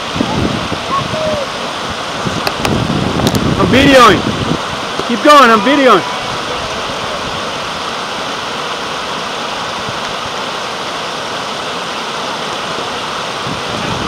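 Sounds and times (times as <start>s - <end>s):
river rapids over rocks: 0.0s - 14.0s.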